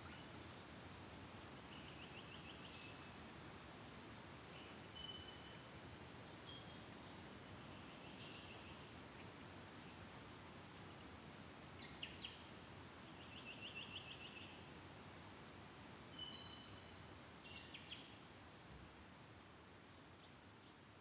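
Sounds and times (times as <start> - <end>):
wild birdsong: 0.0 - 3.2, 4.4 - 14.8, 16.0 - 21.0
steady low hiss: 0.0 - 21.0.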